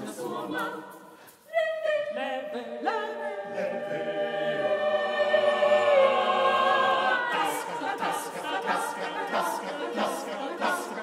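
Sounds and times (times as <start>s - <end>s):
choir singing a cappella: 0.0s - 11.0s.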